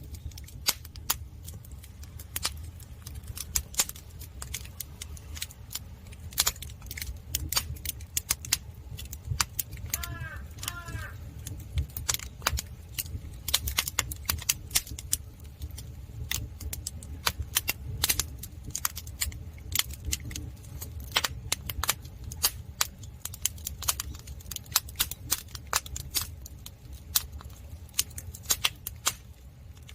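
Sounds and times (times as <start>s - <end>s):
firewood crackling and popping: 0.0s - 29.9s
low steady rumble: 0.0s - 29.9s.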